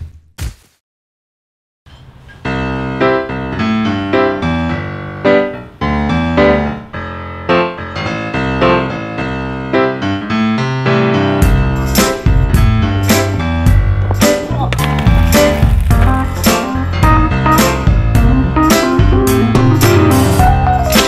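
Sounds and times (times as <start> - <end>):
piano background music: 2.4 - 21.0.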